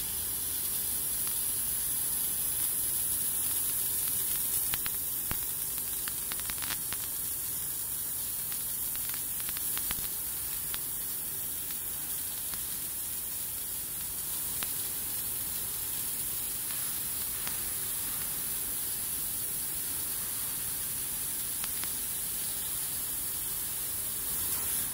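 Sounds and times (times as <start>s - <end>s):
laser cutter gas jet hiss: 0.0s - 24.9s
faint spark ticks: 0.1s - 24.9s.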